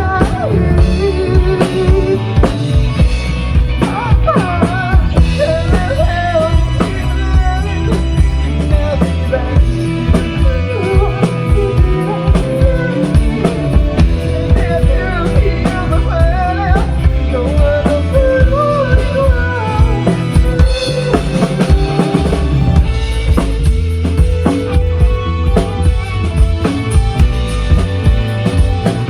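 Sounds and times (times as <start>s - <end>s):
bending melodic lead line: 0.0s - 29.0s
drum kit beat: 0.0s - 29.0s
rock band playing: 0.0s - 29.0s.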